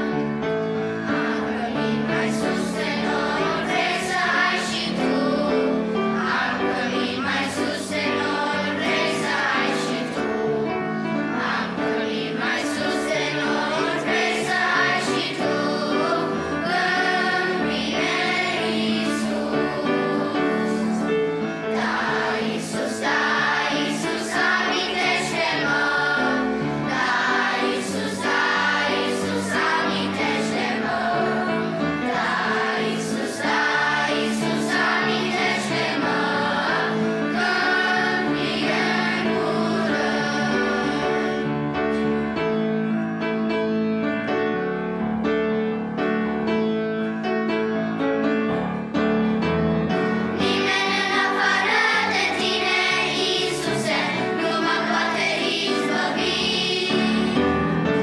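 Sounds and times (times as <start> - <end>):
children's choir singing a hymn: 0.0 - 58.0
grand piano: 0.0 - 58.0.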